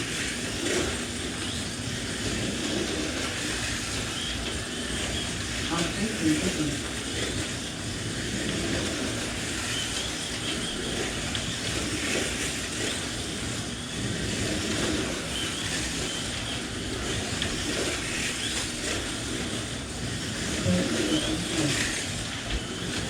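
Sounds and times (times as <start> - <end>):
slot car motors whining: 0.0 - 23.0.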